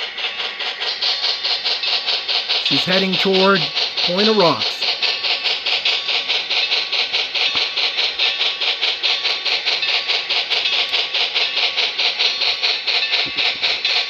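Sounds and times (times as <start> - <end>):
steam exhaust chuffing: 0.0 - 14.0.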